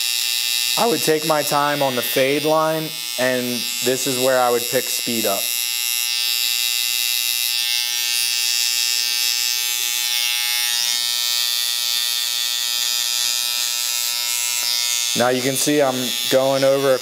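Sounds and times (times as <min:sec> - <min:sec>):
electric hair clipper running: 0:00.0 - 0:17.0.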